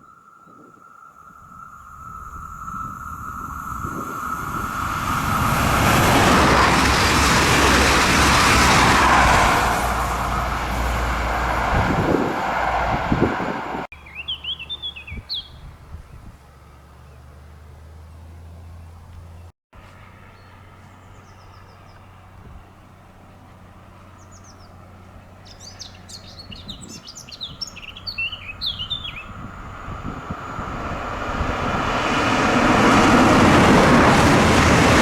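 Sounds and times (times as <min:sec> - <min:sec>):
train passing at speed: 0:00.9 - 0:13.9, 0:19.9 - 0:35.0.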